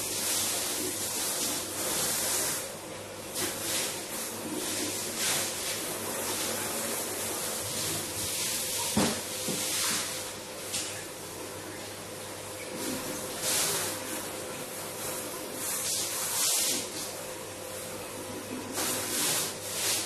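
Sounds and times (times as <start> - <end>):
running water hissing: 0.0 - 11.0, 12.6 - 17.2, 18.7 - 20.0.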